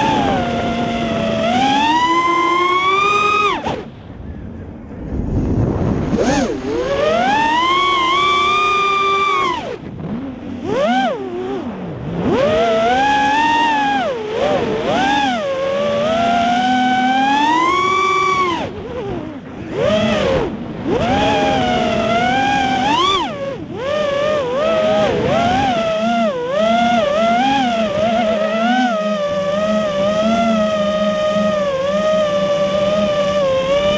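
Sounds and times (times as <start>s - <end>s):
drone motors whining: 0.0s - 33.9s.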